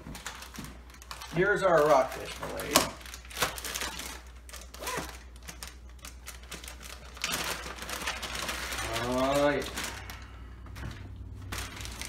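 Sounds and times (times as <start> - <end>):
plastic bag clicking and crinkling: 0.0 - 12.0
plastic bag rustling: 0.0 - 12.0.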